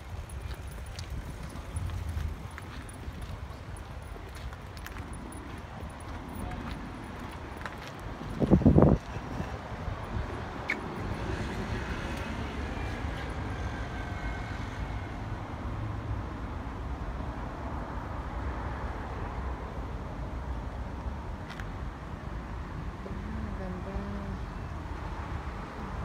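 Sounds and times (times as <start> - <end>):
passing cars rumbling: 0.0 - 26.0.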